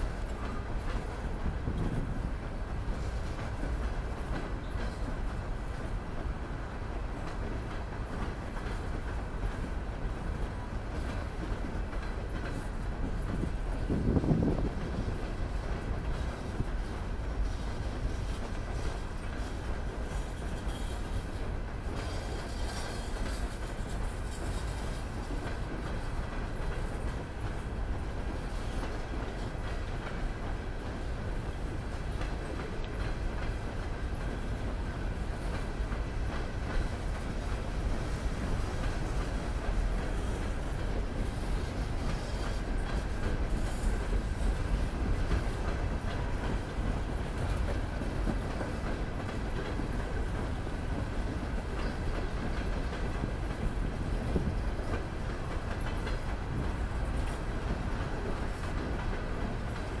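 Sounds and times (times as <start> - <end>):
train wheels rolling on rail: 0.0 - 60.0.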